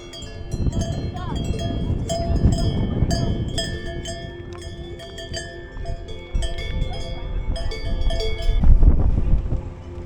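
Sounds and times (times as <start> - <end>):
cowbells clanking: 0.0 - 8.9.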